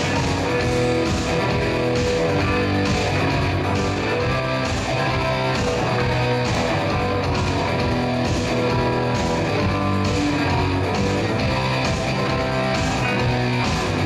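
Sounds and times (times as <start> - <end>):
guitar music with steady beat: 0.0 - 14.0.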